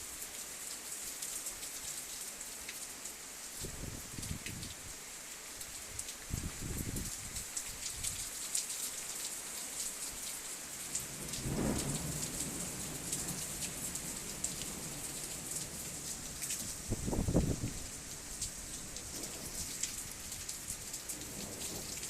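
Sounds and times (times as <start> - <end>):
heavy rain and sleet hissing: 0.0 - 22.0.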